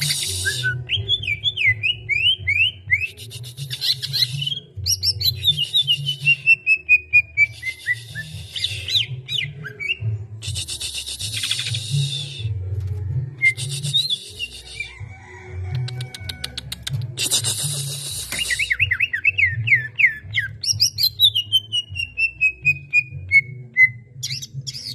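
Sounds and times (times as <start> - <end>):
bird singing whistles: 0.0 - 12.5, 13.4 - 14.9, 18.0 - 24.9.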